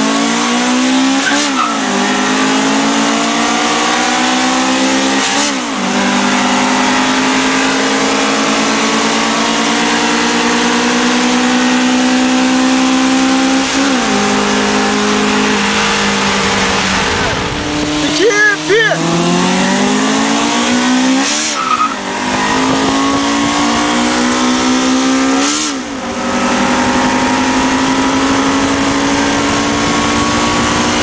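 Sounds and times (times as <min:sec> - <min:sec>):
car engines accelerating hard: 0:00.0 - 0:31.0.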